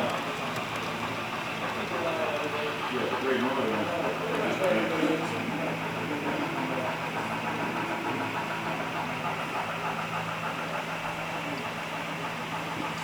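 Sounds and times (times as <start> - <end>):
model train running noise: 0.0 - 13.0.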